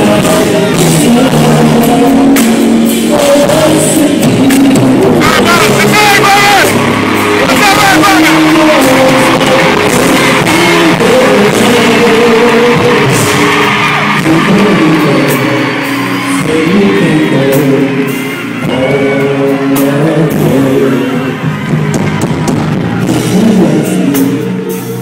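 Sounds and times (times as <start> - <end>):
male vocal group singing: 0.0 - 21.6, 23.0 - 25.0.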